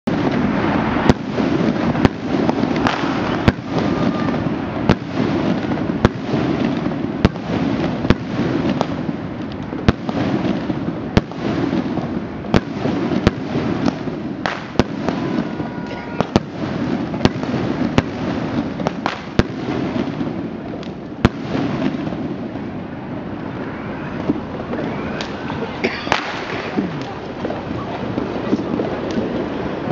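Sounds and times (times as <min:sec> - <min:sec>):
fireworks crackling and rumbling: 0:00.0 - 0:29.9
firecracker bangs: 0:00.1 - 0:22.8, 0:23.6 - 0:29.7.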